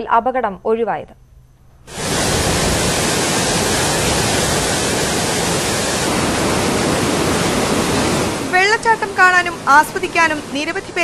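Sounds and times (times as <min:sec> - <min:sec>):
waterfall rushing: 0:01.9 - 0:11.0.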